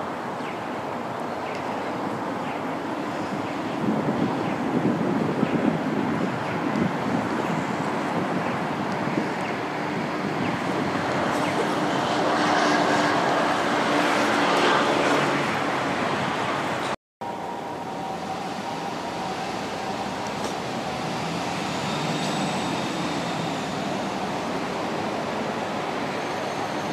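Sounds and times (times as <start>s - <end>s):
hiss of road traffic: 0.0s - 26.9s
steady traffic hum: 0.0s - 26.9s
vehicles passing: 0.0s - 26.9s.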